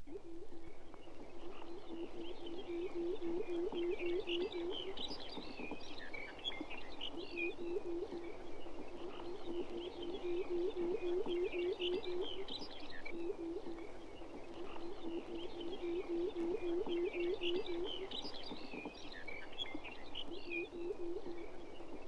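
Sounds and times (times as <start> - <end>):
sandpiper hooting song: 0.0 - 18.9, 19.5 - 22.0.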